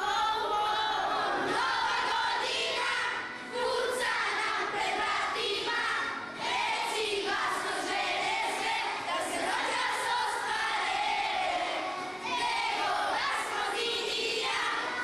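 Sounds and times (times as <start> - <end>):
children singing in chorus: 0.0 - 15.0.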